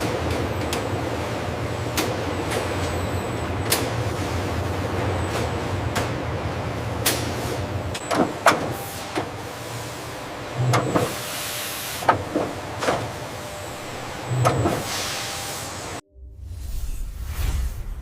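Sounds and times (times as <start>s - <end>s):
machinery clicks and clunks: 0.0s - 16.0s.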